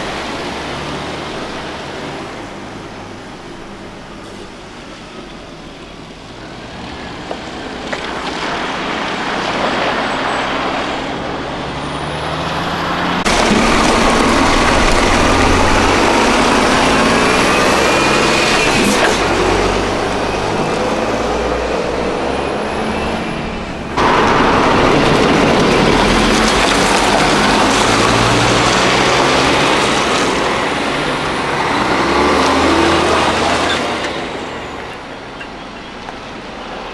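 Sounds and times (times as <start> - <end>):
heavy truck engines running: 0.0 - 36.9.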